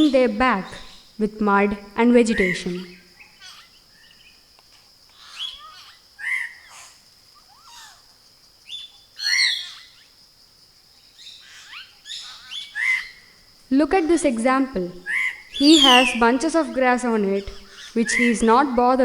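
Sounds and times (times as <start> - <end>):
birds chirping and whistling: 0.0 - 4.4, 5.2 - 8.0, 8.7 - 10.1, 11.2 - 19.0
insect drone: 0.0 - 19.0.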